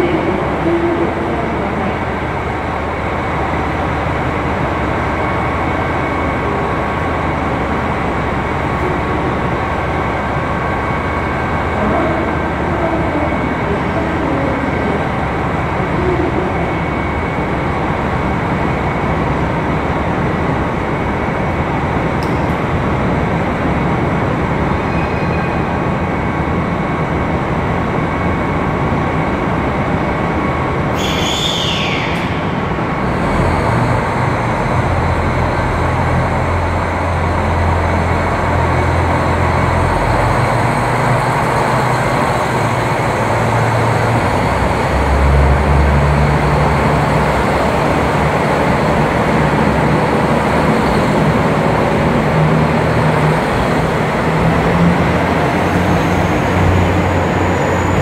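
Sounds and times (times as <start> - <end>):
diesel train engine: 0.0 - 58.0.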